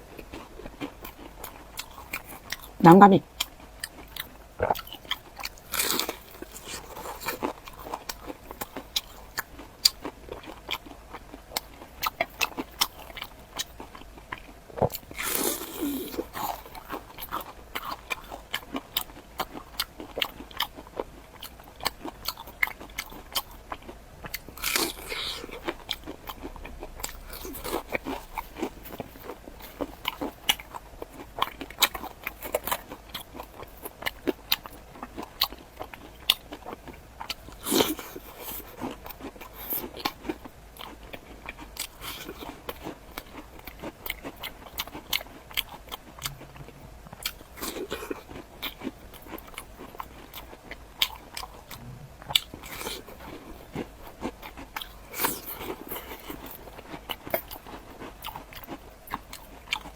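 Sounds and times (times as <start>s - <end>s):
crunchy biting and chewing: 0.0s - 59.9s.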